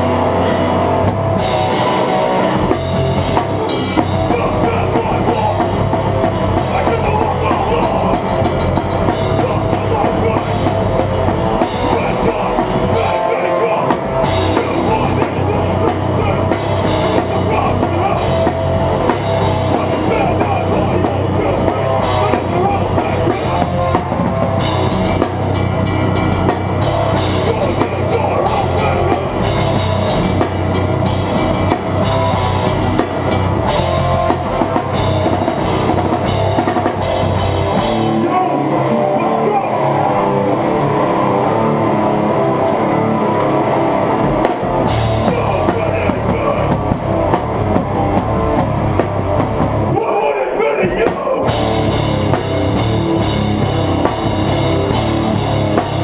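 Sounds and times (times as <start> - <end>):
distorted rock guitars: 0.0 - 56.0
hardcore band playing live: 0.0 - 56.0
pounding drum kit with cymbals: 0.0 - 56.0.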